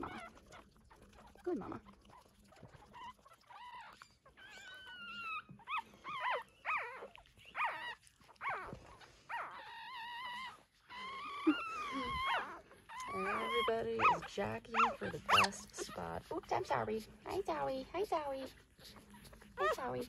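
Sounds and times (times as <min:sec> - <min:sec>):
puppies squealing and whining: 0:00.0 - 0:20.0.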